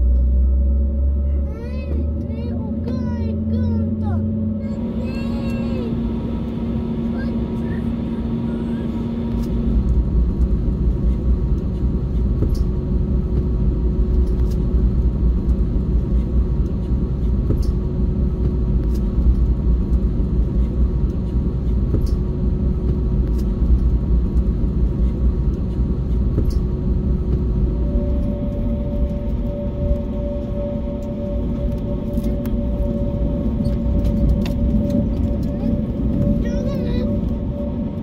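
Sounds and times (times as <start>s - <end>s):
airplane cabin rumble: 0.0s - 38.0s
faint steady hum: 0.0s - 38.0s.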